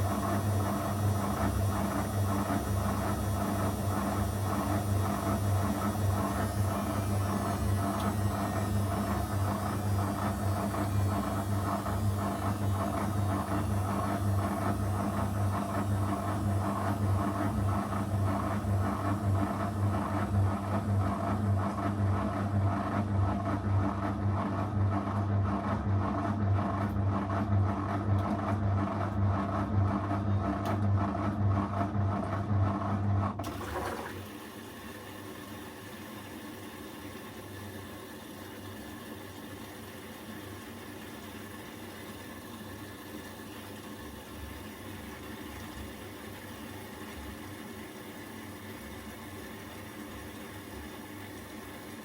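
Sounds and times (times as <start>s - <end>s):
washing machine motor humming: 0.0s - 52.0s.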